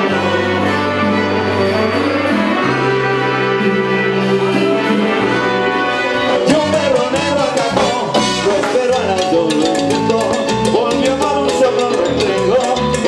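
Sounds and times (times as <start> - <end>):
salsa band music: 0.0 - 13.0.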